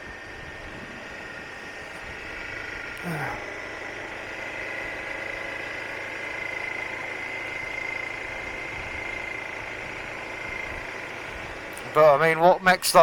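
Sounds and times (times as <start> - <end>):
constant high whine: 0.0 - 13.0
motorcycle engine running: 0.0 - 13.0.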